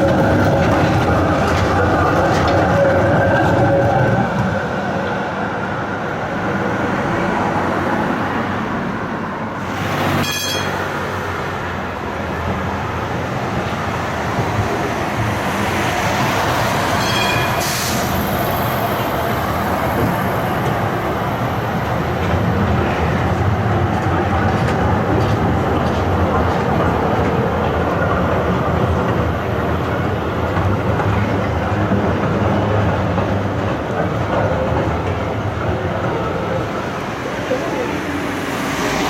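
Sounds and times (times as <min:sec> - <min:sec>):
tram rolling on rails: 0:00.0 - 0:39.0.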